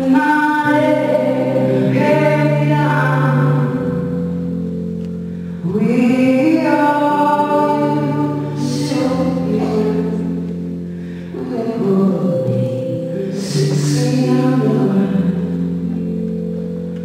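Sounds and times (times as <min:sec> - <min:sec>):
woman singing into a microphone: 0:00.0 - 0:04.6, 0:05.6 - 0:17.0
held accompaniment chords: 0:00.0 - 0:17.0.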